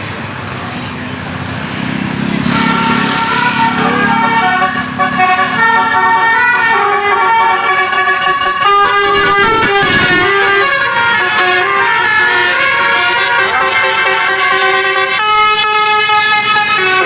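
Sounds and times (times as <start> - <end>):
multi-tone bus horn playing a tune: 2.2 - 17.0.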